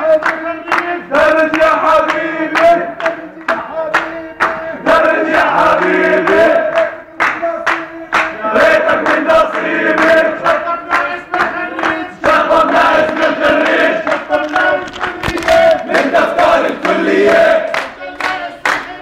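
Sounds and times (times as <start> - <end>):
crowd of men chanting and singing: 0.0 - 19.0
hand claps: 0.0 - 19.0.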